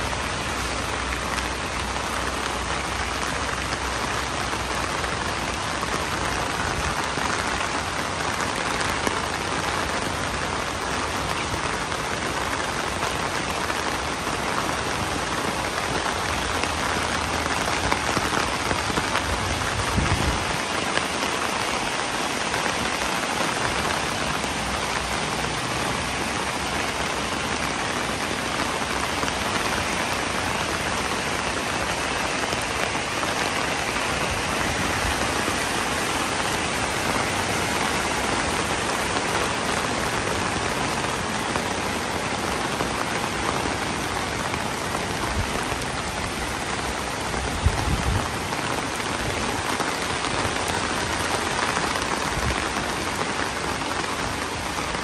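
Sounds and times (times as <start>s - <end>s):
rain on wet pavement: 0.0s - 55.0s.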